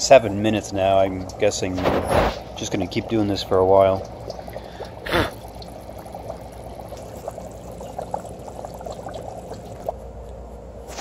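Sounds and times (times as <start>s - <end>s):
dry ice bubbling in water: 0.0s - 10.0s.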